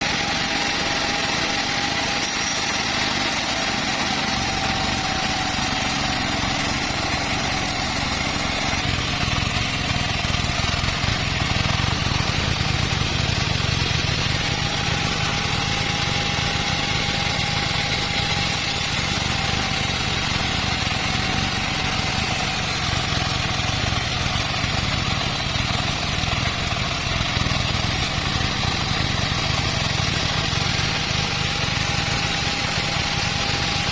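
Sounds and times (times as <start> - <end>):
band saw high whine: 0.0 - 33.9
engine drone: 0.0 - 33.9.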